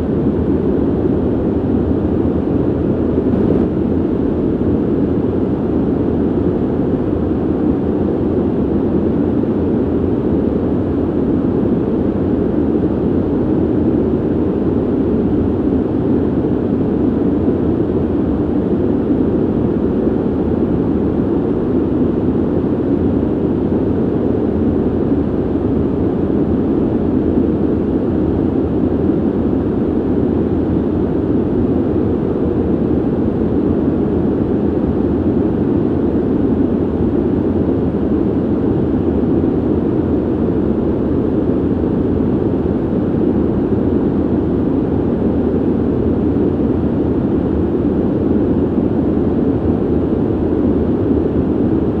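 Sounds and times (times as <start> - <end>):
ventilation air rushing: 0.0 - 52.0.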